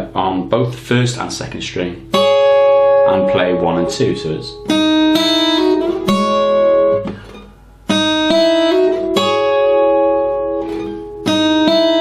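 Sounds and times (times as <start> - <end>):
fingerpicked acoustic guitar: 2.0 - 12.0.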